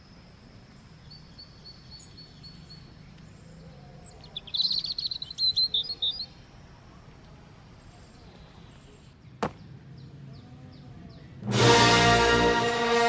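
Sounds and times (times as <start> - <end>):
bird chirping: 0.7 - 11.4.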